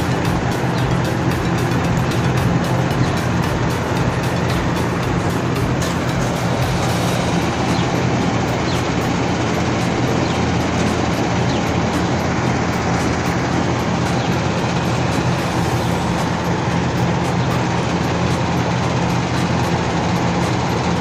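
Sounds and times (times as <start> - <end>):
constant low hum: 0.0 - 21.0
machine rushing noise: 0.0 - 21.0.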